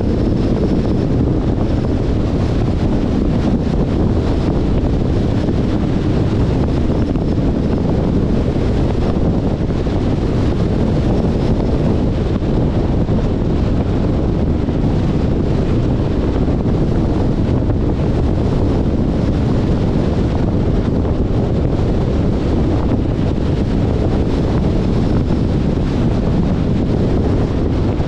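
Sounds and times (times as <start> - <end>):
car road rumble: 0.0 - 28.0
wind rushing over microphone: 0.0 - 28.0.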